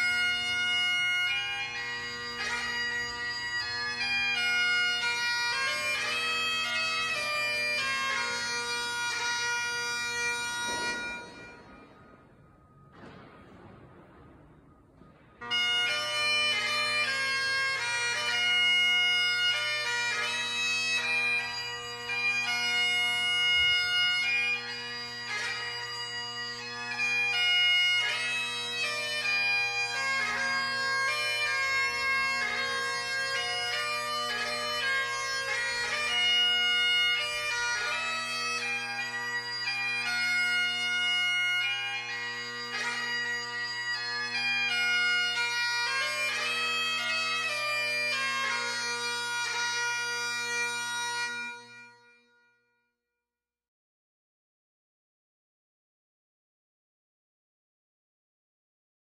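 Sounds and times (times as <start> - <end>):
bagpipe music: 0.0 - 52.6.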